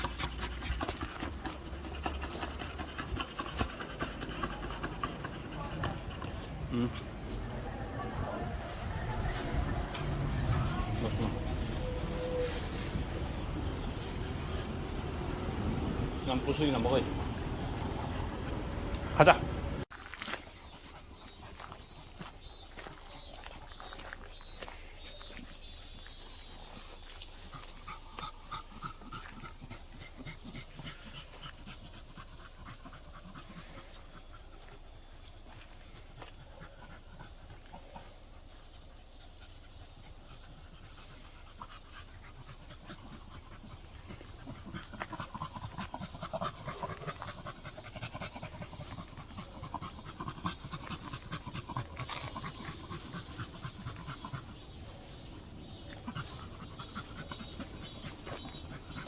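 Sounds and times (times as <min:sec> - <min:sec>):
dogs panting rapidly: 0:00.0 - 0:19.9, 0:20.7 - 0:59.0.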